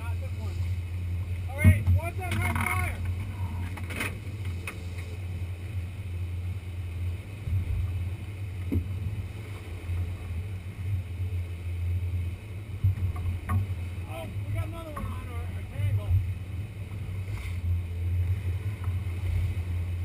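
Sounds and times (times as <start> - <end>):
outboard motors droning: 0.0 - 20.0
rush of boat wake: 0.0 - 20.0.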